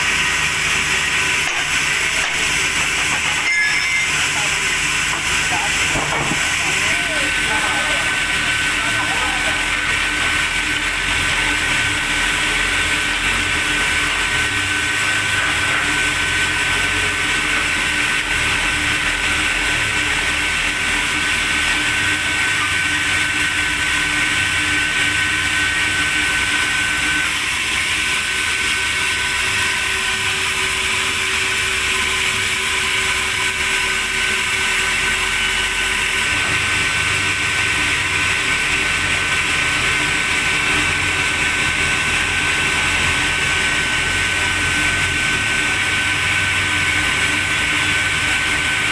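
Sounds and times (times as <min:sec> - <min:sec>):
sawmill machinery whining: 0:00.0 - 0:48.9.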